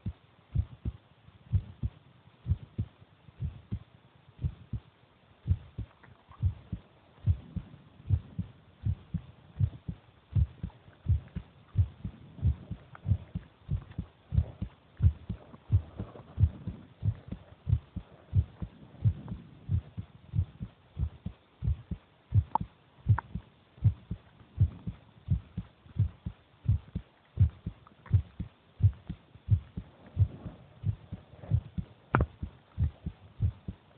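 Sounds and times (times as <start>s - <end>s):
heartbeat thumps: 0.0s - 33.9s.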